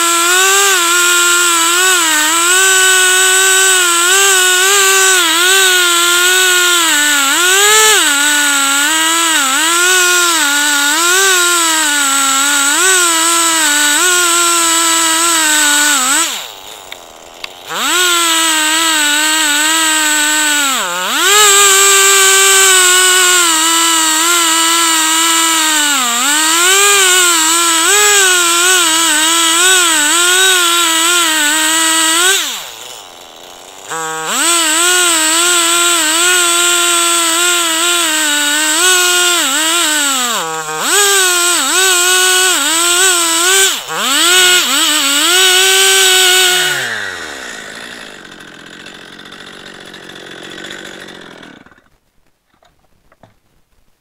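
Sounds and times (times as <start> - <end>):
chainsaw cutting log: 0.0 - 52.0.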